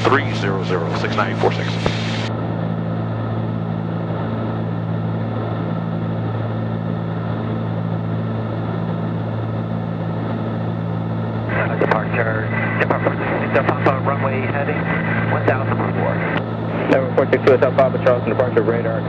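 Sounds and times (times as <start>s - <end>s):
propeller plane cabin drone: 0.0s - 19.0s.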